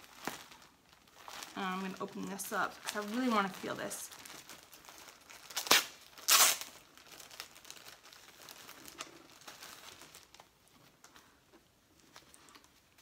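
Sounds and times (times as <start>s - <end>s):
wrapping ripping: 0.0s - 11.3s
wrapping crinkling: 0.0s - 13.0s.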